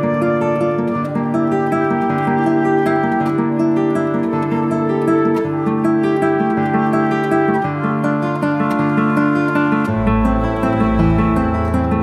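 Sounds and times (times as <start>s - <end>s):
plucked-string melody: 0.0s - 12.0s.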